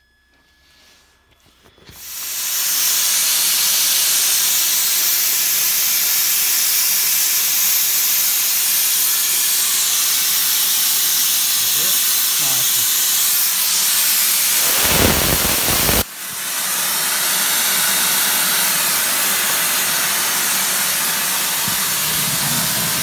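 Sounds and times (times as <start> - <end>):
plasma cutter hissing: 1.9 - 23.0.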